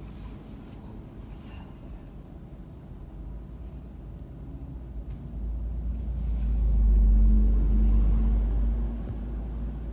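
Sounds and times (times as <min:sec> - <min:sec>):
bus engine rumble: 0:00.0 - 0:09.9.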